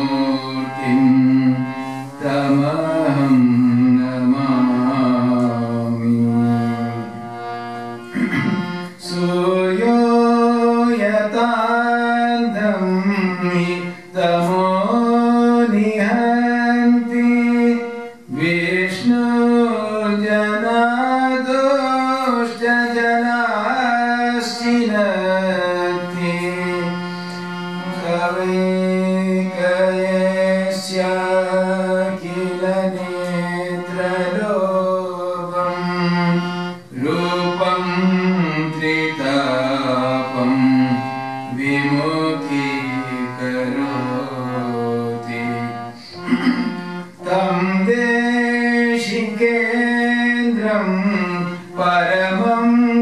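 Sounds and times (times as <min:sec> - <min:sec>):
harmonium chords: 0:00.0 - 0:53.0
man singing into a microphone: 0:00.0 - 0:53.0.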